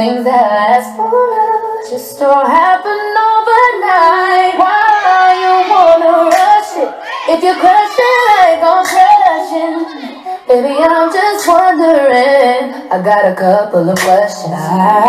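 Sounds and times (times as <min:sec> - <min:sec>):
woman singing long held notes: 0:00.9 - 0:15.0.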